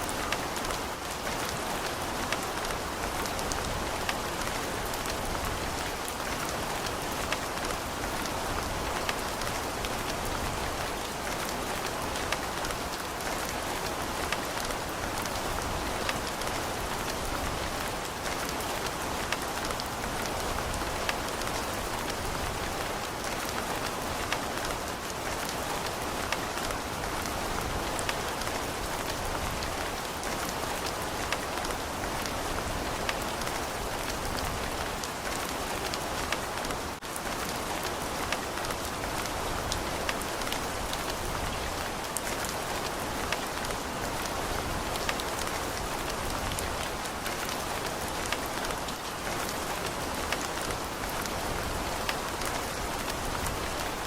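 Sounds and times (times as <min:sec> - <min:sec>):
heavy rain: 0:00.0 - 0:54.0
raindrops pattering: 0:00.0 - 0:54.0.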